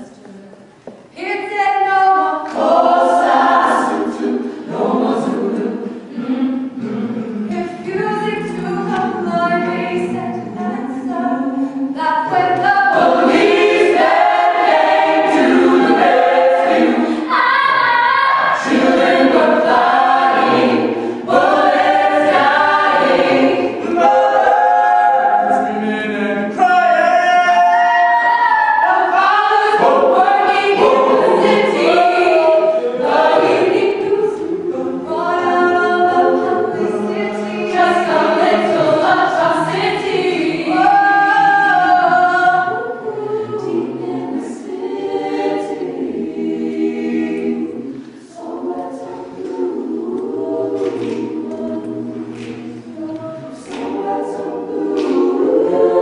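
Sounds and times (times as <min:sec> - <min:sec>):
a cappella choir singing: 0:01.1 - 0:56.0.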